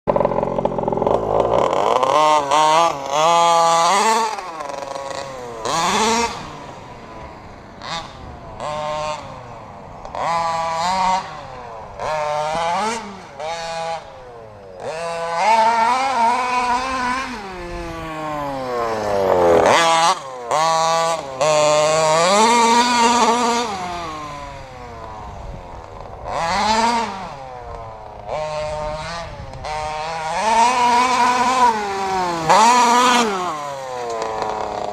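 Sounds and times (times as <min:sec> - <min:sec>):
two-stroke engine revving: 0:00.1 - 0:34.9.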